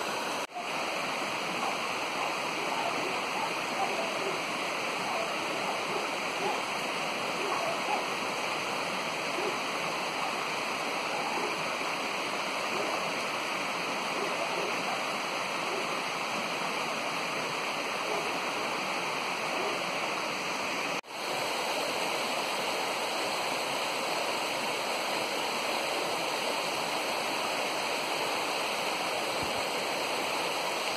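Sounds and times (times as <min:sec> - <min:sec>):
stream rushing over its bed: 0:00.0 - 0:30.9.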